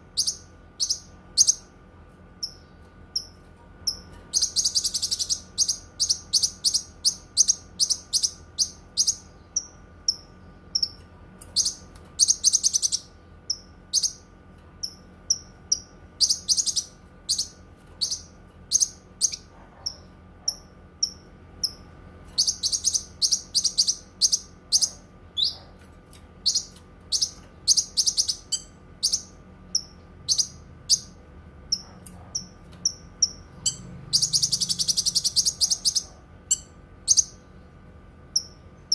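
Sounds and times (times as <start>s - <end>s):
songbird chirping and trilling: 0.0s - 1.8s, 2.4s - 25.8s, 26.4s - 37.6s
faint steady hum: 0.0s - 38.9s.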